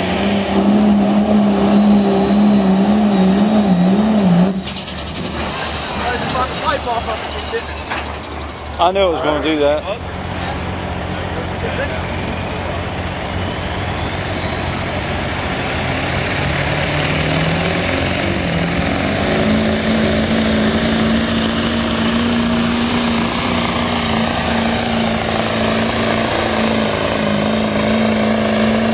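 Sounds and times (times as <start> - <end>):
diesel truck engine under load: 0.0 - 28.9.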